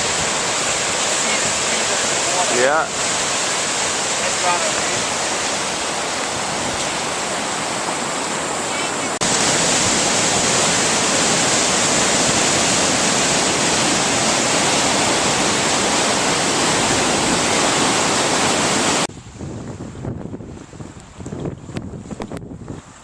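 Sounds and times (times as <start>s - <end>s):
faint wind noise: 0.0s - 23.0s
rushing water: 0.0s - 23.0s.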